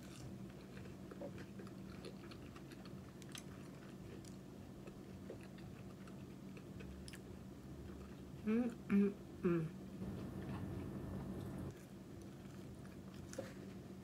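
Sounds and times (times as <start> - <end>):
person chewing food: 0.0 - 8.4, 10.0 - 14.0
steady low hum: 0.0 - 14.0.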